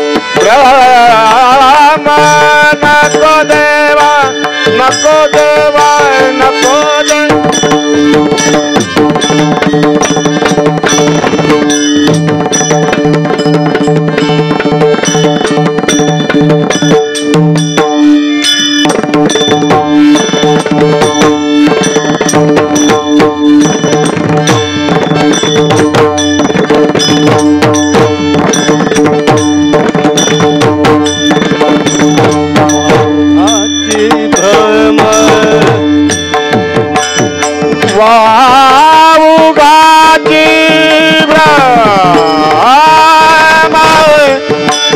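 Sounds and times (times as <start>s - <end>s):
hand drum fast rhythm: 0.0s - 44.9s
steady held notes: 0.0s - 44.9s
wavering pitched melody line: 1.9s - 44.9s.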